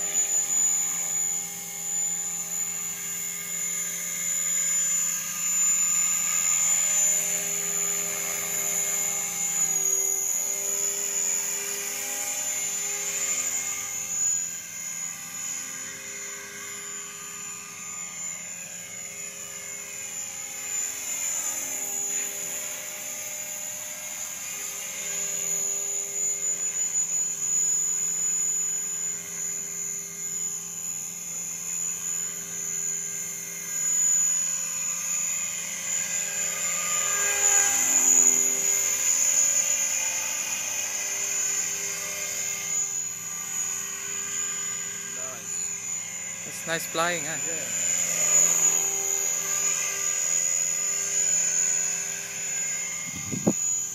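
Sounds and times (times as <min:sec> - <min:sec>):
helicopter rotor blades buzzing: 0:00.0 - 0:53.9
high motor whine: 0:00.0 - 0:53.9.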